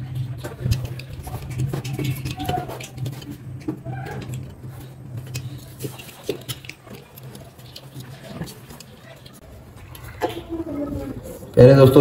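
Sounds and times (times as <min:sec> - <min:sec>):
steady low hum: 0:00.0 - 0:12.0
connector clicking and scraping: 0:00.4 - 0:10.4.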